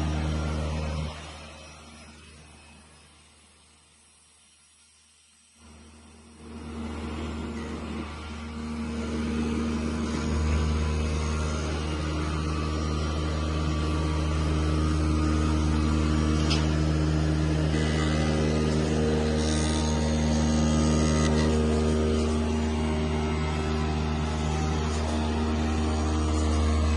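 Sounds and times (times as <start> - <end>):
cutting machine mechanical hum: 0.0 - 26.9.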